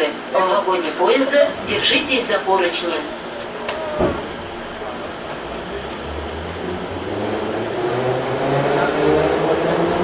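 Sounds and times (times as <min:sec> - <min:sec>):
metro train motors whining: 0:00.0 - 0:10.0.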